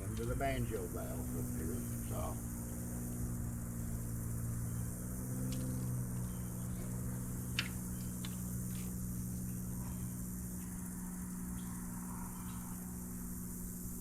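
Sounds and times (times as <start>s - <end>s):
electric fuel pump humming: 0.0s - 14.0s.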